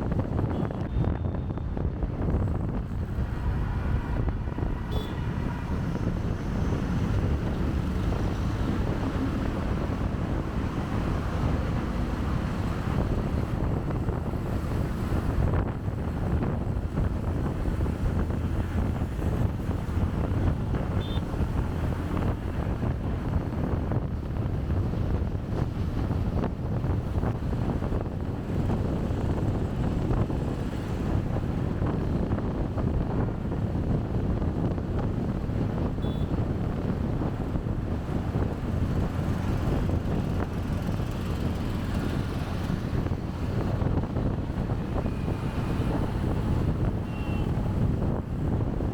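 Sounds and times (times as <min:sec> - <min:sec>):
road and traffic noise: 0:00.0 - 0:48.9
wind rumbling on microphone: 0:00.0 - 0:48.9.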